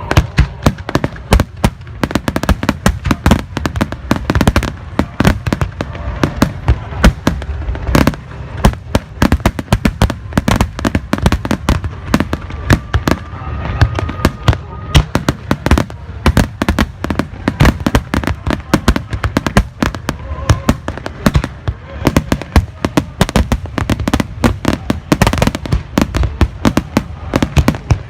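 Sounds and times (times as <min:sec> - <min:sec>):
continuous low rumble: 0:00.0 - 0:28.0
fireworks bursting with sharp bangs: 0:00.0 - 0:28.0.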